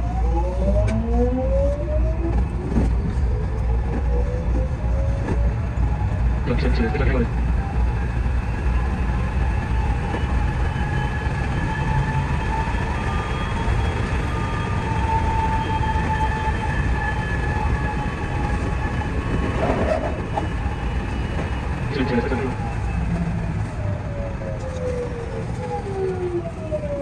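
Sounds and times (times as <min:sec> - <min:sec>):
faint whining tones: 0:00.0 - 0:27.0
train wheels rumbling on rail: 0:00.7 - 0:27.0.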